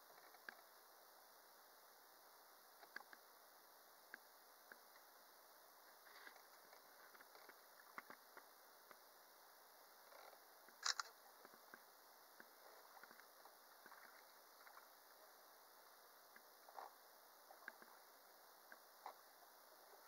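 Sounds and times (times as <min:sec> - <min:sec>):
faint hiss: 0:00.0 - 0:20.0.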